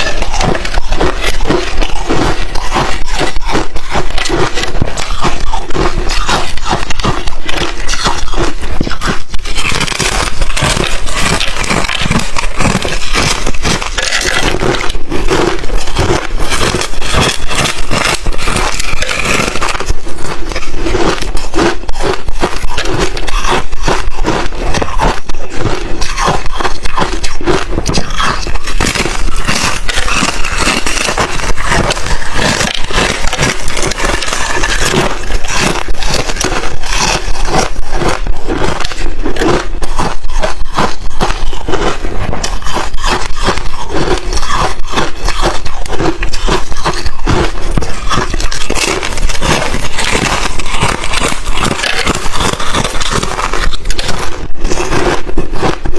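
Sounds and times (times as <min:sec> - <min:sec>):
person chewing crushed ice: 0:00.0 - 0:55.9.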